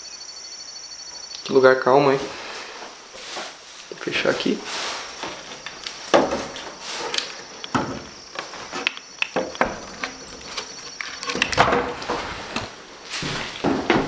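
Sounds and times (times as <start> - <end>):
footsteps: 2.0 - 14.0
knocks and scrapes of moving around: 2.0 - 14.0.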